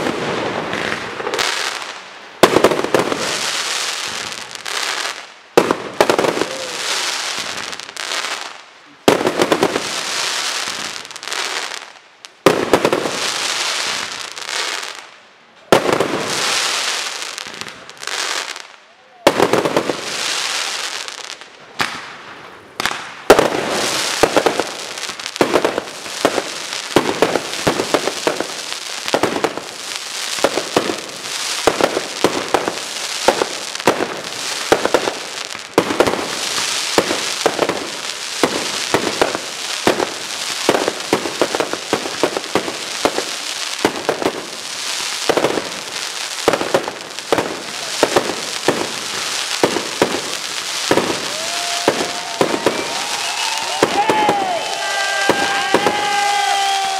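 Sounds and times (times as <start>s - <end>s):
fireworks bursting and crackling: 0.0s - 56.9s.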